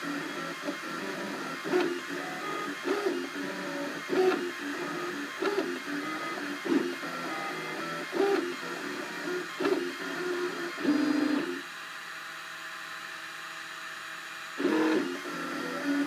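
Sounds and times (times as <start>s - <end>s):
printer hum: 0.0s - 16.0s.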